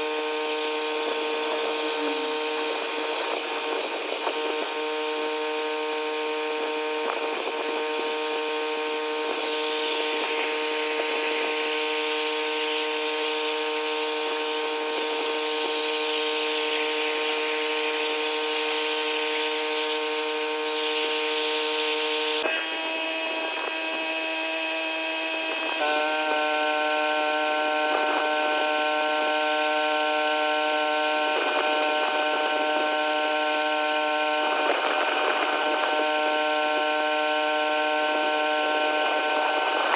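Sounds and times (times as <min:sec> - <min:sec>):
pressure washer whine: 0:00.0 - 0:39.9
spray hissing: 0:00.0 - 0:39.9.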